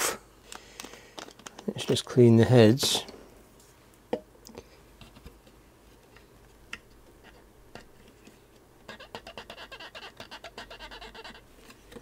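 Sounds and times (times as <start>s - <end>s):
low room hiss: 0.0s - 12.0s.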